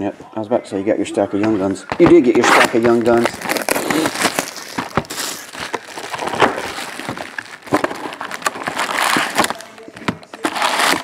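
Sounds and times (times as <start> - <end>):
plastic wrap crinkling: 2.0 - 11.0.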